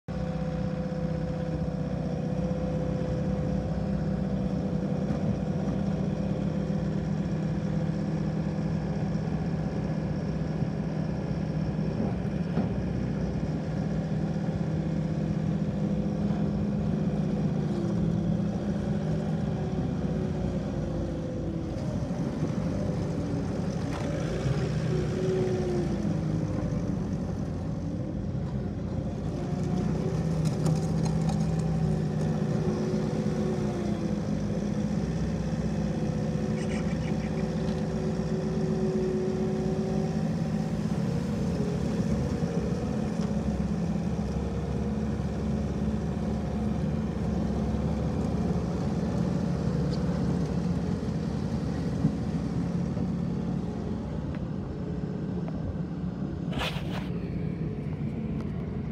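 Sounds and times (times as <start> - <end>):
diesel engine running: 0.1 - 58.9.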